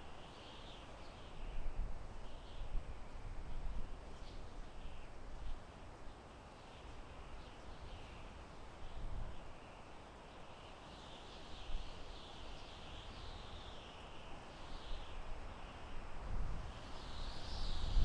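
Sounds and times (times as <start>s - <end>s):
wind in a forest: 0.0s - 18.0s.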